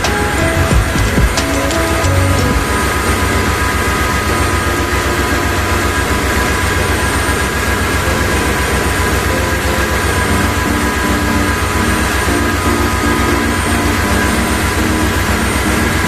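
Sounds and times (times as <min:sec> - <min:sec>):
steady whining tones: 0:00.0 - 0:16.0.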